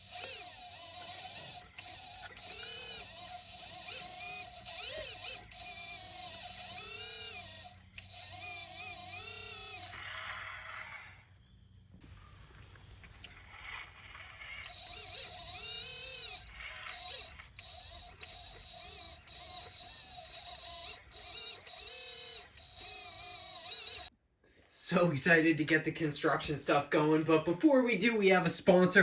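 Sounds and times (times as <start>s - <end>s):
small electric motors whining: 0.0s - 24.1s.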